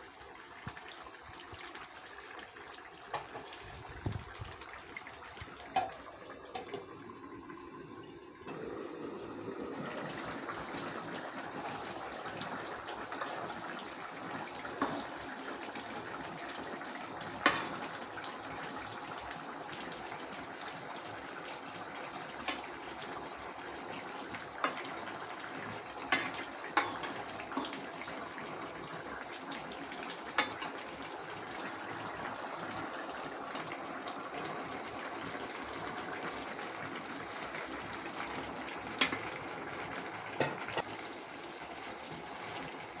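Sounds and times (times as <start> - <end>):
curry bubbling and hissing: 0.0 - 43.0.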